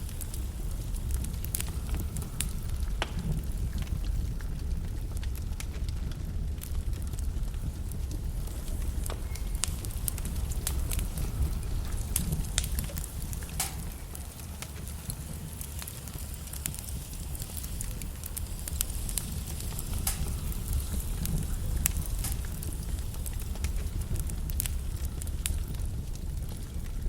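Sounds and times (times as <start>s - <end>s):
logs burning in fireplace: 0.0s - 27.0s.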